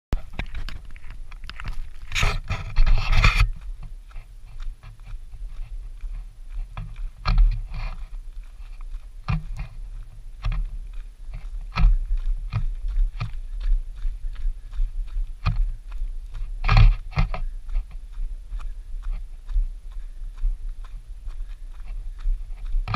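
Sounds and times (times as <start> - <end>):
footsteps on gravel: 0.2 - 22.9.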